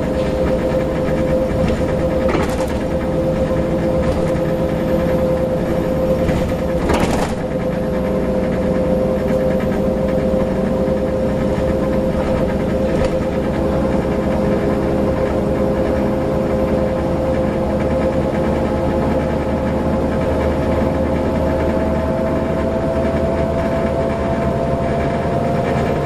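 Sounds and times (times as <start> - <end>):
bus diesel engine and road noise: 0.0 - 26.0
steady high whine: 0.0 - 26.0.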